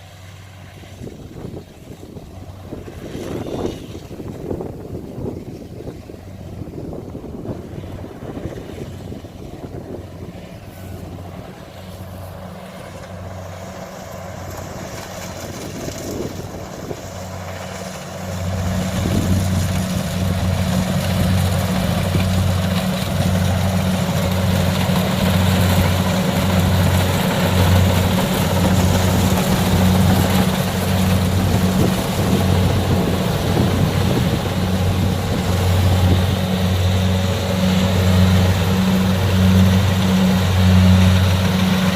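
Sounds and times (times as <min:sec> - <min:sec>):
diesel engine throbbing: 0:00.0 - 0:41.9.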